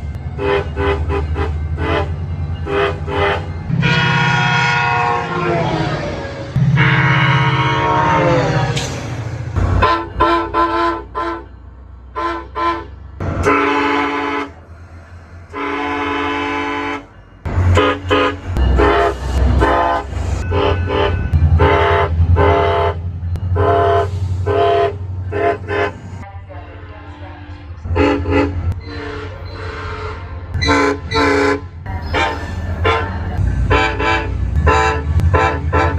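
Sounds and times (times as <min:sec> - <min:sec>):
train low rumble: 0:00.0 - 0:35.9
train air horn blasts: 0:00.4 - 0:06.0, 0:06.6 - 0:11.5, 0:12.1 - 0:14.9, 0:15.5 - 0:35.9.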